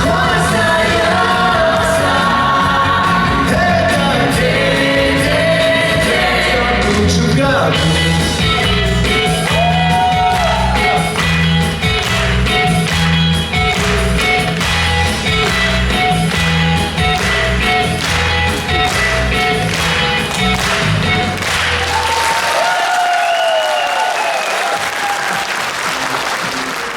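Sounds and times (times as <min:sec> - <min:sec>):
steady drum beat: 0:00.0 - 0:22.2
live rock and roll band: 0:00.0 - 0:22.8
bass: 0:00.0 - 0:22.9.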